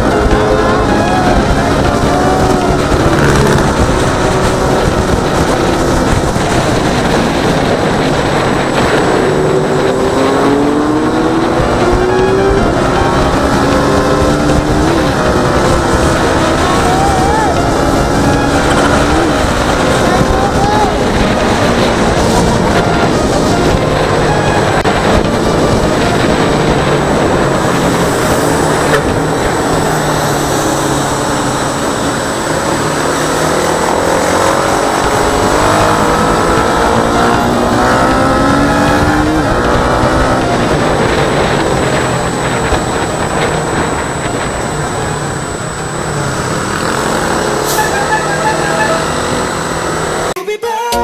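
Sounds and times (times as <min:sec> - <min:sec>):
motorcycle engine running: 0:00.0 - 0:50.4
wind and road noise: 0:00.0 - 0:50.4.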